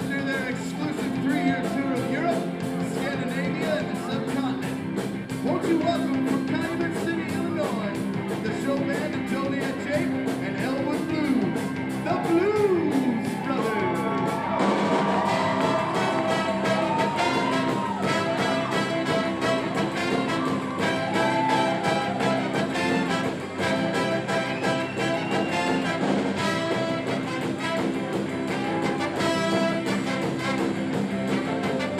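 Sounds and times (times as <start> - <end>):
rock and roll band music: 0.0 - 31.9.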